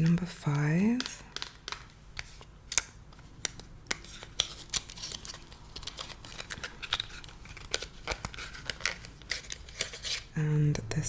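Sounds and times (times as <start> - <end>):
packaging crinkling: 0.0 - 10.3.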